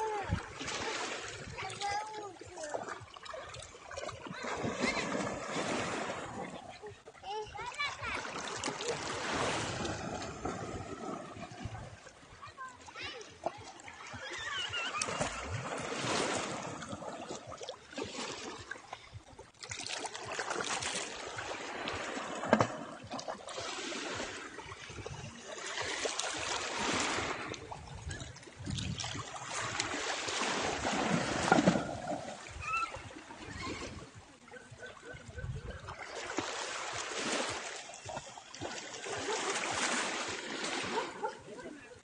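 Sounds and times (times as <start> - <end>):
sea water washing and splashing: 0.0 - 42.0.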